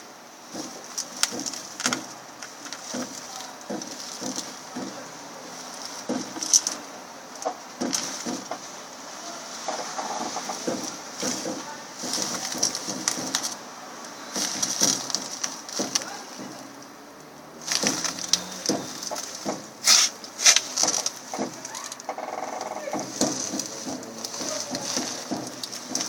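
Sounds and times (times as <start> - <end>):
suspension strut knocking: 0.4 - 26.0.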